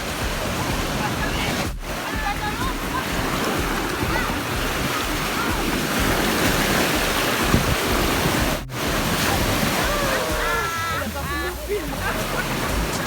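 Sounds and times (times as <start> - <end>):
wind on microphone: 0.0 - 11.2
sea surf breaking on beach: 0.0 - 13.0.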